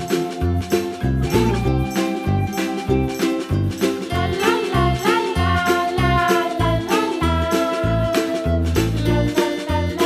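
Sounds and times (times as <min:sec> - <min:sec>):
plucked-string tune: 0:00.0 - 0:10.0.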